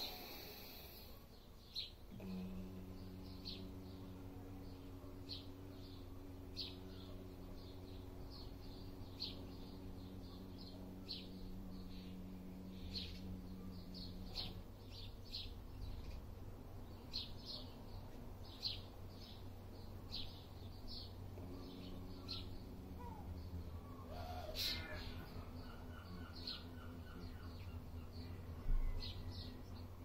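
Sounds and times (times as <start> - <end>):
faint low hum: 0.0 - 30.0
small bird chirping: 0.0 - 30.0.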